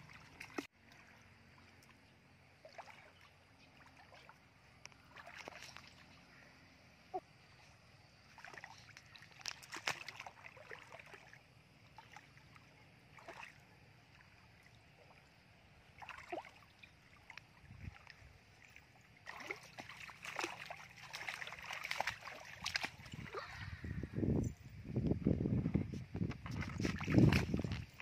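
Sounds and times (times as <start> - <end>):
feet splashing in shallow water: 0.0 - 6.5, 7.2 - 23.8, 26.3 - 28.0.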